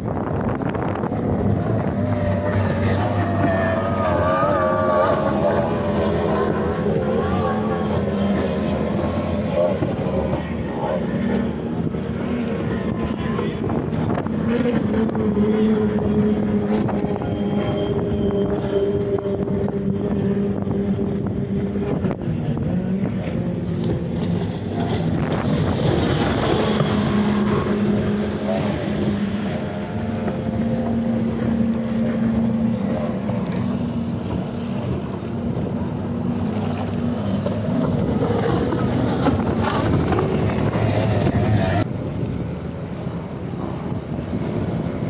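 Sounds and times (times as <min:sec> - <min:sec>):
race boat engines droning: 0:00.0 - 0:45.0
wind buffeting microphone: 0:00.0 - 0:45.0.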